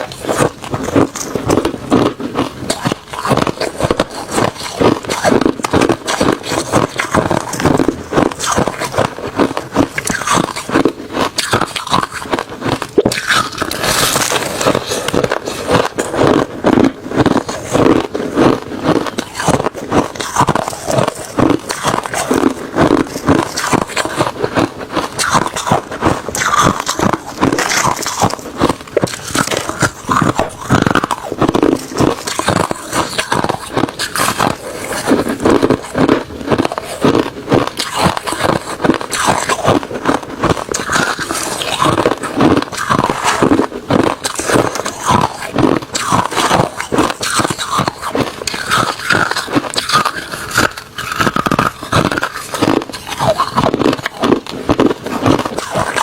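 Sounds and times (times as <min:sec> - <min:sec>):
ice crunching when chewed: 0:00.0 - 0:56.0.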